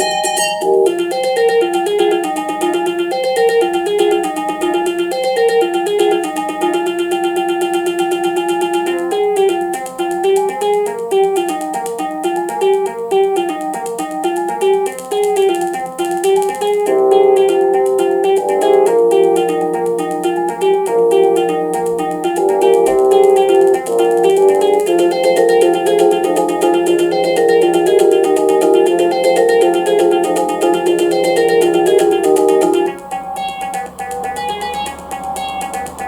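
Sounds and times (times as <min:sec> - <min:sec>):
fm-synthesised pop music: 0:00.0 - 0:36.0
plucked guitar-like melody: 0:00.0 - 0:36.0.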